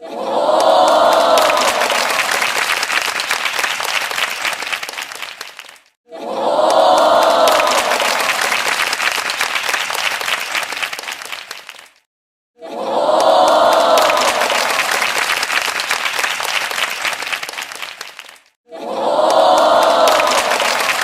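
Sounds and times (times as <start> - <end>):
crowd cheering: 0.0 - 12.0, 12.6 - 21.0
audience applause: 0.2 - 12.0, 12.7 - 21.0.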